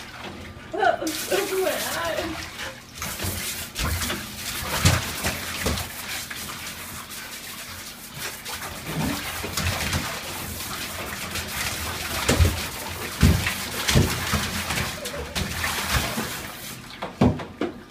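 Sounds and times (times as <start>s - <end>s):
water splashing in bathtub: 0.0s - 17.9s.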